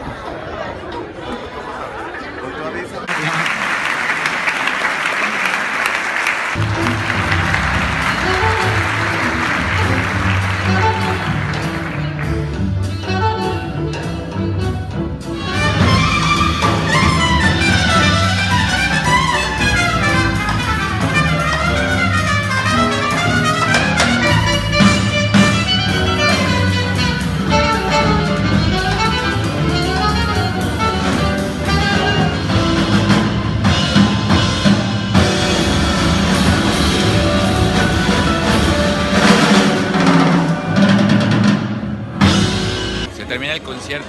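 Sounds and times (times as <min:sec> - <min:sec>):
live jazz band: 0:03.0 - 0:44.0.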